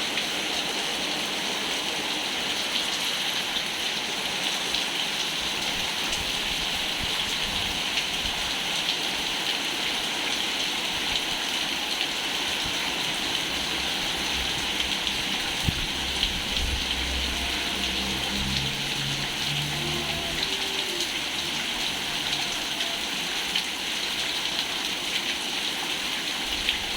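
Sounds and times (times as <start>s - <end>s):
rain falling on pond: 0.0s - 26.9s.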